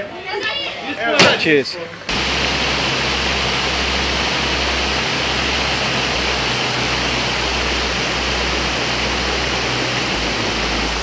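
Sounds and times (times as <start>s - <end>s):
stream rushing over rocks: 2.1s - 11.0s.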